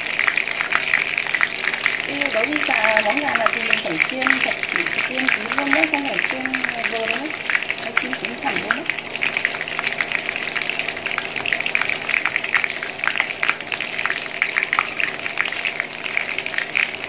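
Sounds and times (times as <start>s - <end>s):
chicken frying in oil: 0.0s - 17.0s.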